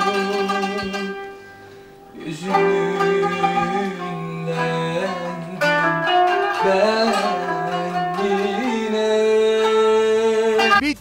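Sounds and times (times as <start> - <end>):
person singing long notes: 0.0 - 1.4, 2.1 - 11.0
plucked zither melody: 0.0 - 10.8.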